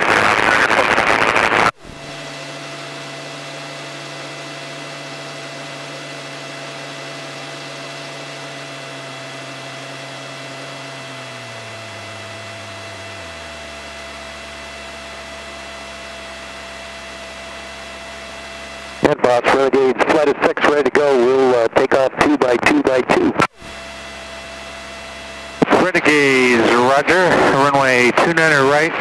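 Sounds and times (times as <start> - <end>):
whining tones: 0.0 - 29.0
aircraft engine low tone: 1.7 - 21.8, 23.5 - 28.8.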